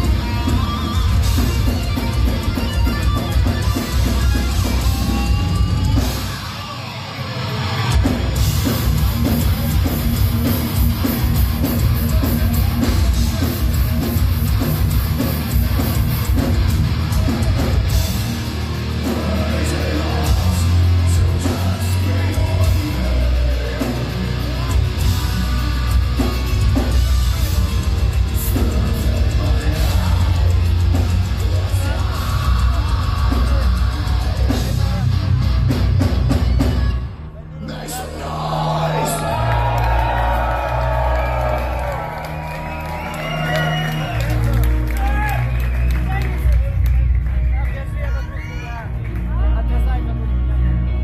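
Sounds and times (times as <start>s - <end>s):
metal band playing live: 0.0s - 51.0s.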